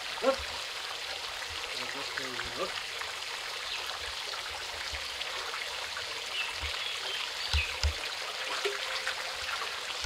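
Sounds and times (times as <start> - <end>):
running water: 0.0 - 10.0.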